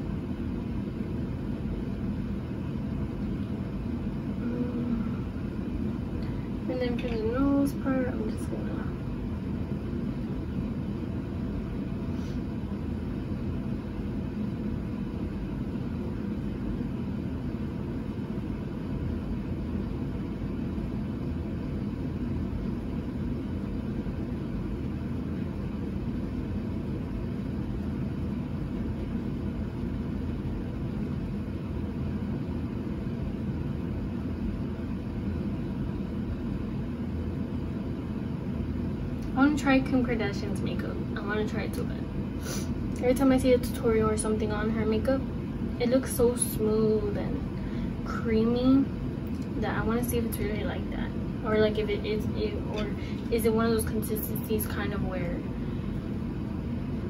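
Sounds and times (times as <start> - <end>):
low rumbling background noise: 0.0 - 57.0.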